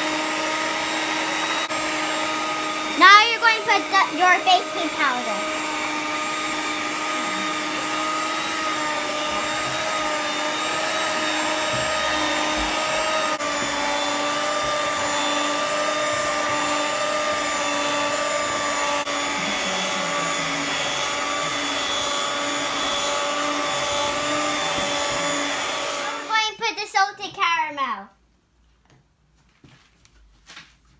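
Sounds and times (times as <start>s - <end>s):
electric mixer motor whine: 0.0s - 26.3s.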